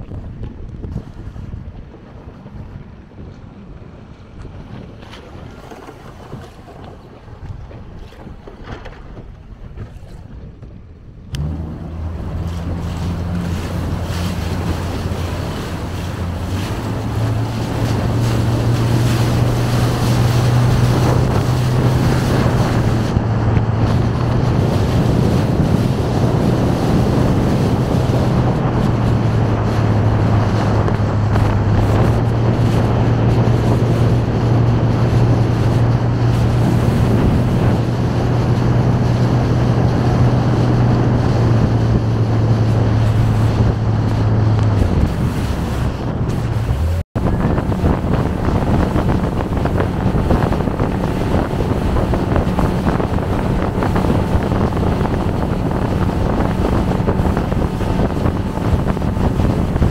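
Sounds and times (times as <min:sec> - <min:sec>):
rushing water: 0:00.0 - 0:10.4, 0:11.3 - 0:59.9
motorboat engine humming: 0:00.0 - 0:59.9
wind on microphone: 0:00.0 - 0:59.9.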